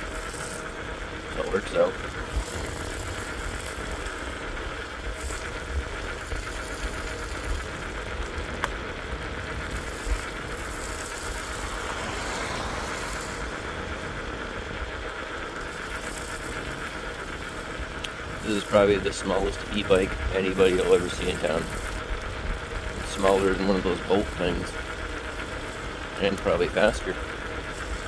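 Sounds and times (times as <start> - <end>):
bike tyre noise: 0.0 - 28.0.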